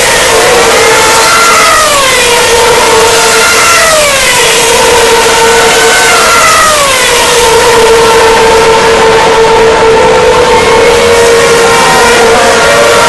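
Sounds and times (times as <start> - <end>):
racing cars passing by: 0.0 - 13.0
steady engine tone: 0.0 - 13.0.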